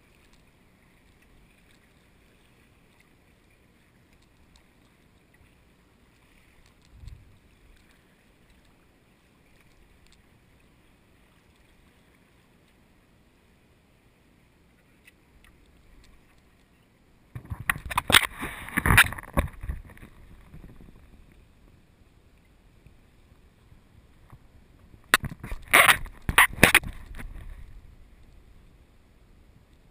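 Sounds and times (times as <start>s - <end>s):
kayak paddle strokes: 0.0s - 21.8s, 22.4s - 28.4s
water lapping: 0.0s - 28.6s.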